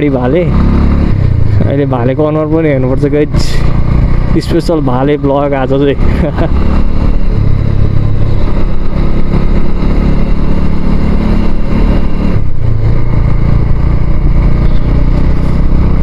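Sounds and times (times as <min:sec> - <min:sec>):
motorcycle engine at low speed: 0:00.0 - 0:16.0.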